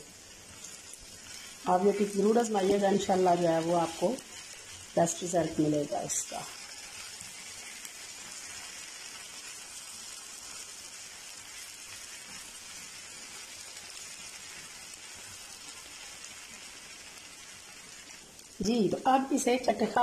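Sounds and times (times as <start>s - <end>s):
spatula turning food in pan: 0.0s - 18.8s
liver sizzling in oil: 0.0s - 20.0s.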